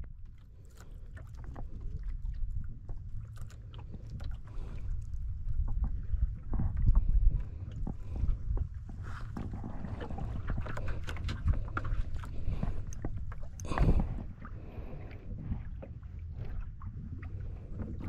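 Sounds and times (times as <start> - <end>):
water lapping against boat: 0.0 - 18.0
wind: 0.0 - 18.0.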